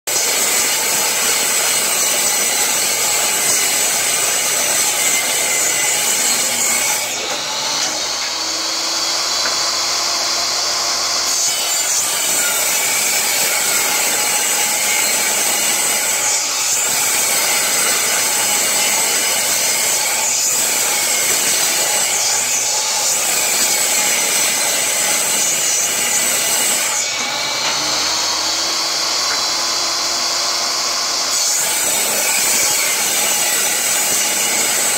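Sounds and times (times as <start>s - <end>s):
table saw cutting wood: 0.1s - 34.9s.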